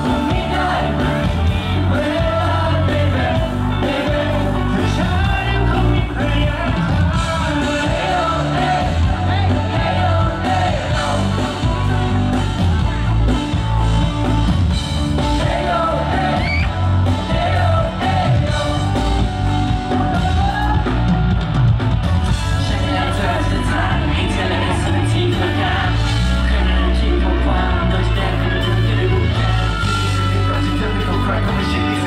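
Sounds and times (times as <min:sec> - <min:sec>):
live band playing pop-rock: 0:00.0 - 0:32.0.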